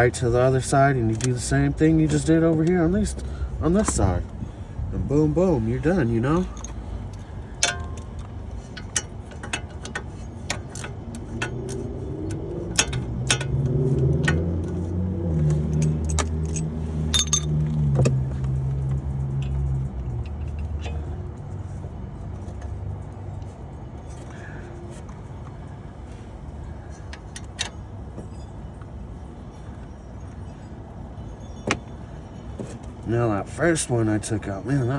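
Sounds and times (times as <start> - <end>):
low steady hum: 0.0 - 34.9
metal tools clinking: 0.0 - 34.9.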